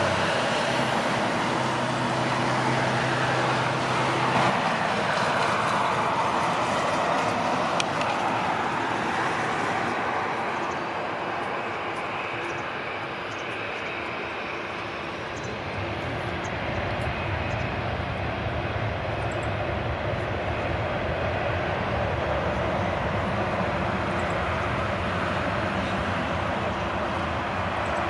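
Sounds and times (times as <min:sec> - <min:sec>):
jet airliner engines rushing: 0:00.0 - 0:28.0.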